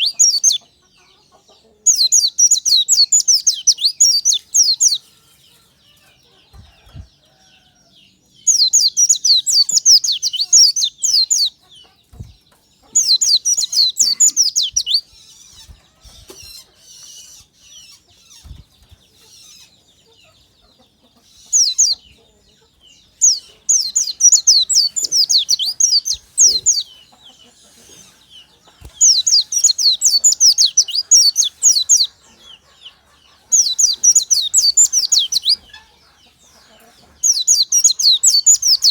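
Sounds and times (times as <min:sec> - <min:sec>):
bird singing high downward notes: 0:00.0 - 0:05.1, 0:06.0 - 0:38.9.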